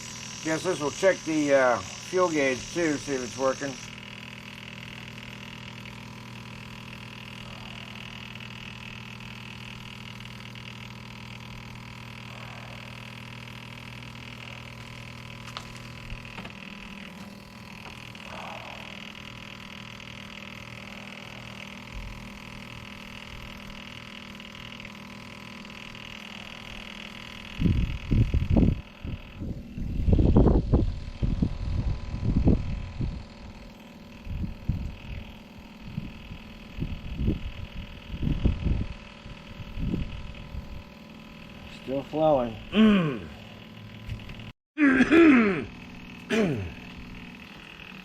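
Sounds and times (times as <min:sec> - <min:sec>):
electric fuel pump humming: 0:00.0 - 0:48.0.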